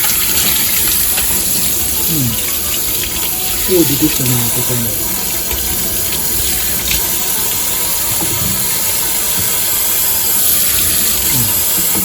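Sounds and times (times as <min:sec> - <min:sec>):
faucet water running into sink: 0:00.0 - 0:12.0.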